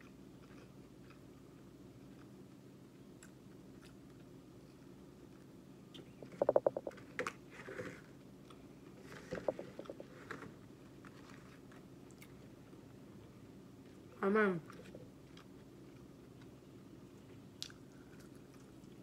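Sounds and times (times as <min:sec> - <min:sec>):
chewing burger: 0:00.0 - 0:14.1, 0:14.7 - 0:19.0
faint low hum: 0:00.0 - 0:19.0.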